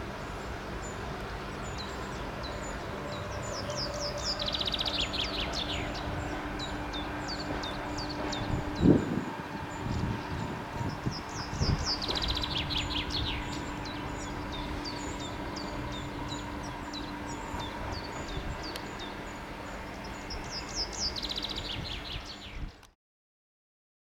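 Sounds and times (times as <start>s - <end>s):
low outdoor rumble: 0.0s - 22.9s
songbirds chirping: 0.0s - 22.9s.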